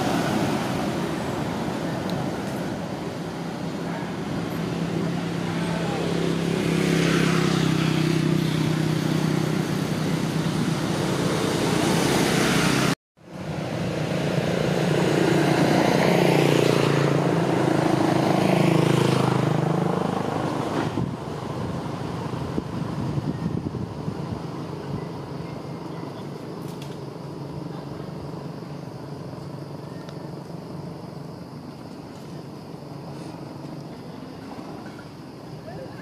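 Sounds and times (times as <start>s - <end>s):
vehicle engine drone: 0.0s - 36.0s
vehicles passing: 0.0s - 36.0s.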